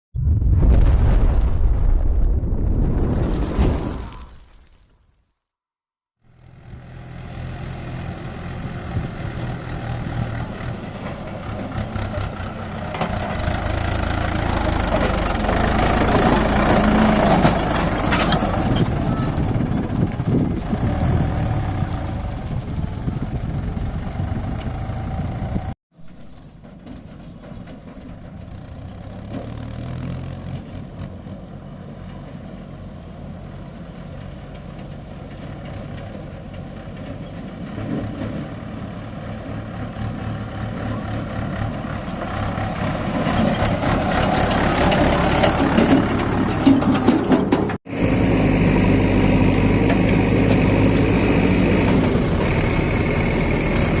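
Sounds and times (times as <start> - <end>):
tractor diesel engine under load: 6.2 - 54.0.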